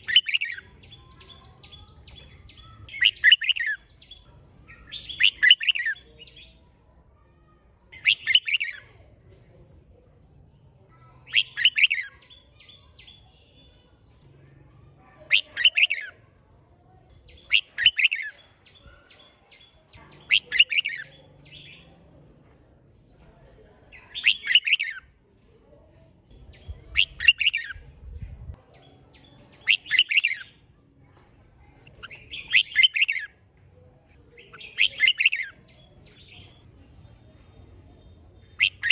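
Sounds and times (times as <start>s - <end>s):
bulbul singing warbling phrases: 0.0s - 9.2s, 10.5s - 14.3s, 15.2s - 16.4s, 17.0s - 22.0s, 22.9s - 30.7s, 31.8s - 33.6s, 34.3s - 38.9s.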